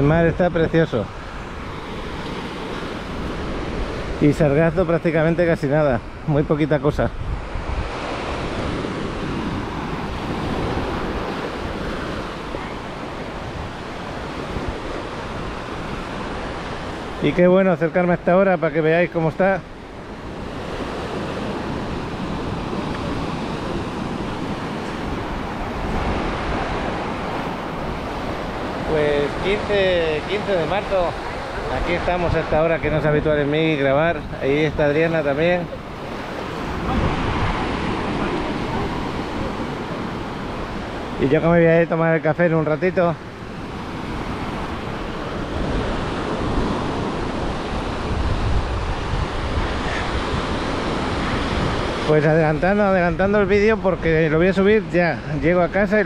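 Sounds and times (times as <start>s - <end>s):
wind rumbling on microphone: 0.0s - 17.3s, 19.6s - 41.3s, 43.2s - 56.0s
waves washing up a sandy beach: 0.0s - 56.0s.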